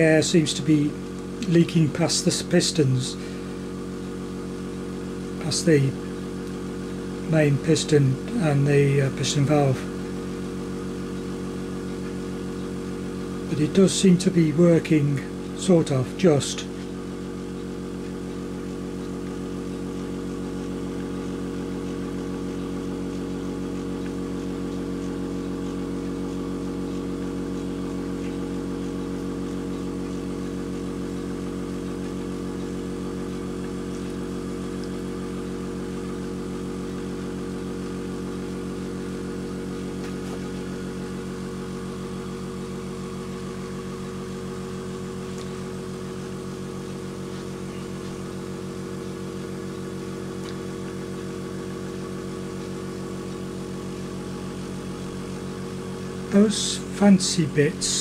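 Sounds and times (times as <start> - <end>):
air compressor humming: 0.0 - 58.0.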